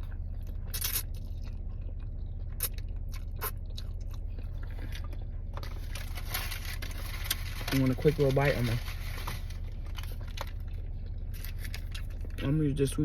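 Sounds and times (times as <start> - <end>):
person chewing food: 0.0 - 7.5, 9.4 - 12.4
low hum: 0.0 - 13.0.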